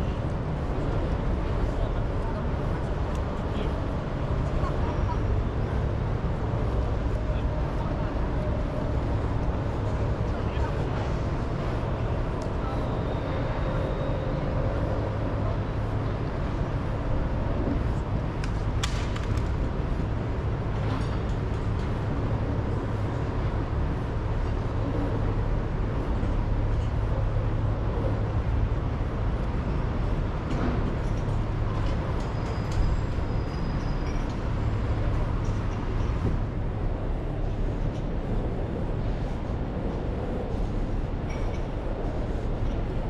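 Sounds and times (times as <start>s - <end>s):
city traffic rumble: 0.0s - 43.0s.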